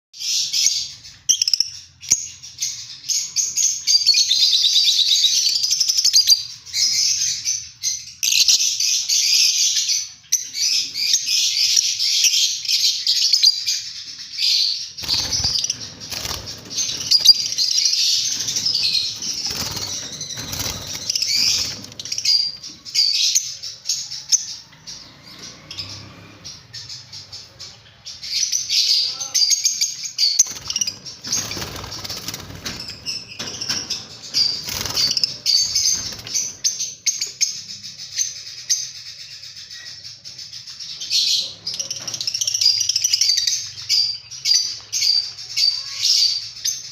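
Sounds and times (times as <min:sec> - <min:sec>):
lovebirds chirping: 0:00.2 - 0:46.9.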